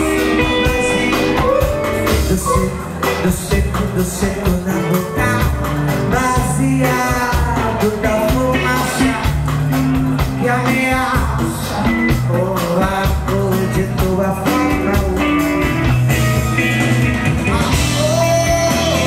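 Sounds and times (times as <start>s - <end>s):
person singing: 0.0s - 9.6s, 10.2s - 15.8s, 17.4s - 19.0s
live band playing: 0.0s - 19.0s.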